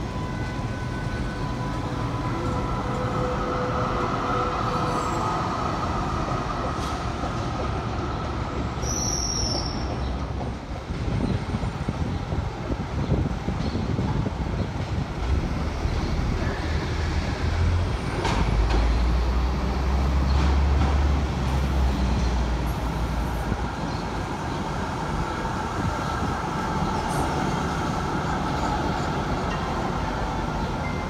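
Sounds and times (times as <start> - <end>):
tram motors humming: 0.0 - 31.0.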